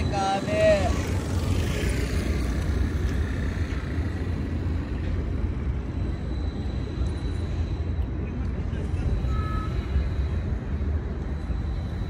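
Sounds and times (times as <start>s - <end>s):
continuous low rumble: 0.0s - 12.0s.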